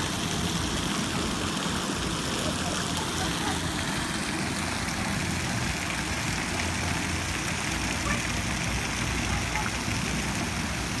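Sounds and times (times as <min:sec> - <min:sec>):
water spraying and splashing: 0:00.0 - 0:11.0.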